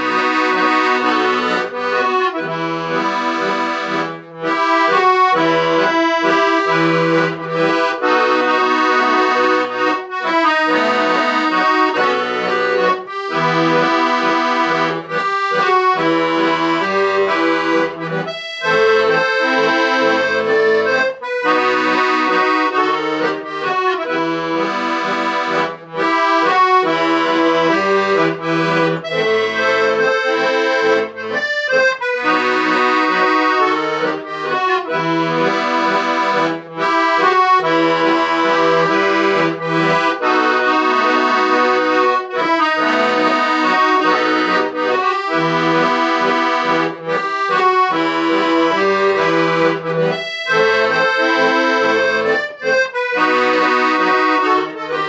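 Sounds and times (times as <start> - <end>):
accordion playing a tune: 0.0 - 55.0.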